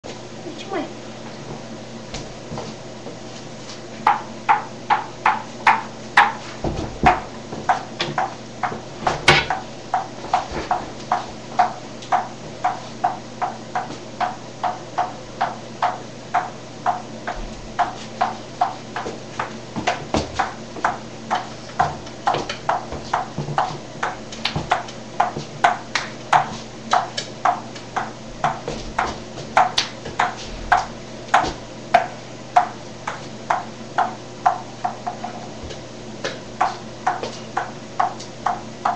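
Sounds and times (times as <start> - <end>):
table tennis ball bouncing: 4.0 - 6.4, 7.0 - 35.4, 36.2 - 38.9.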